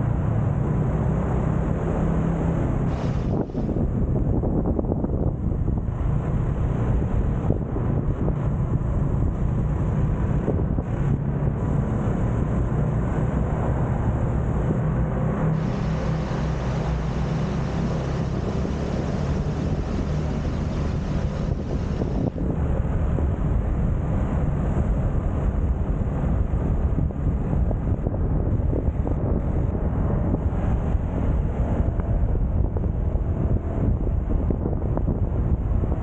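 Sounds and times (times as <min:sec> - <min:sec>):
scooter road noise: 0:00.0 - 0:36.0
wind rushing on microphone: 0:00.0 - 0:36.0.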